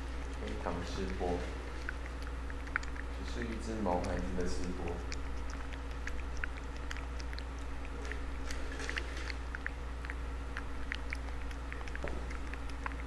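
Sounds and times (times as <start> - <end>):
cat chewing wetly: 0.0 - 13.0
steady low hum: 0.0 - 13.0.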